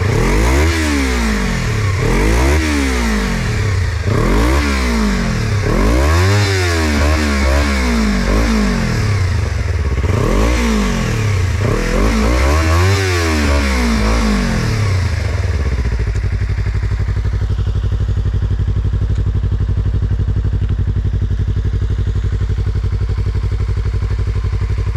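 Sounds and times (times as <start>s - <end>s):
motorcycle engine revving and idling: 0.0s - 24.9s.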